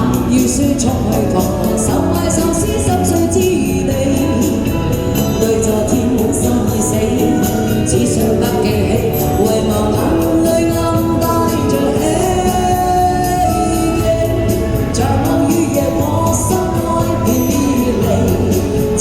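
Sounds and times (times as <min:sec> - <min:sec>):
backing track with steady beat: 0:00.0 - 0:19.0
person singing: 0:00.0 - 0:19.0.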